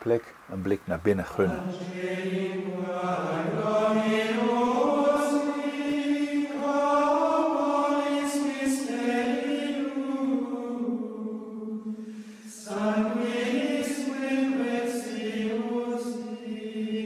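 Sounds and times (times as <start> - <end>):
choir singing plainchant in unison: 1.2 - 17.0.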